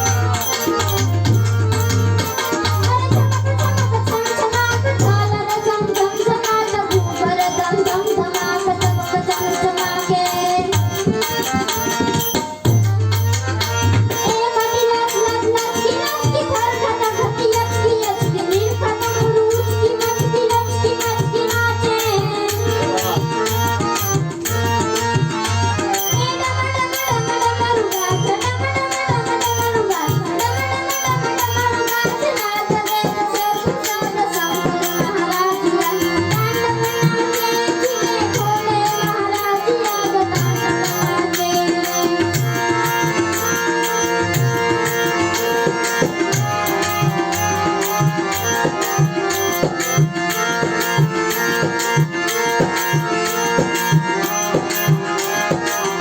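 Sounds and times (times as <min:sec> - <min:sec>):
tabla rhythm: 0:00.0 - 0:56.0.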